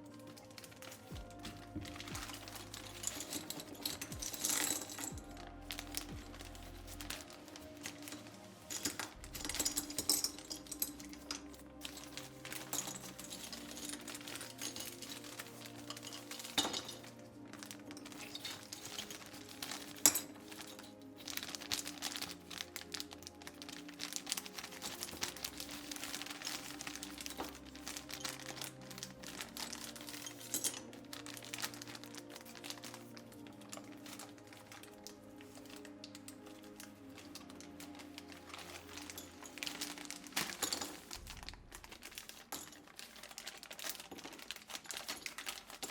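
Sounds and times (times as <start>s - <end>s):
background music: 0.0s - 45.9s
packaging crinkling: 0.0s - 45.9s.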